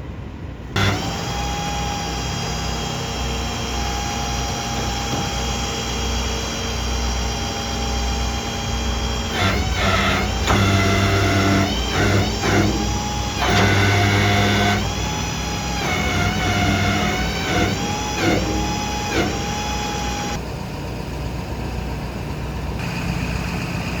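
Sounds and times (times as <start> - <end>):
diesel truck engine running: 0.5 - 24.0.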